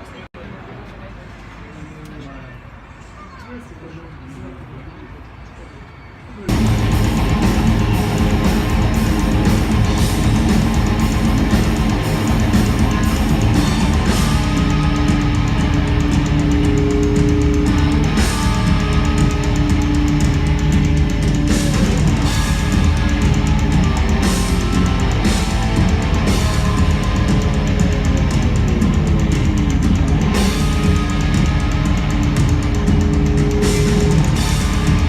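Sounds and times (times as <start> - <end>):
heavy metal music: 6.5 - 35.0.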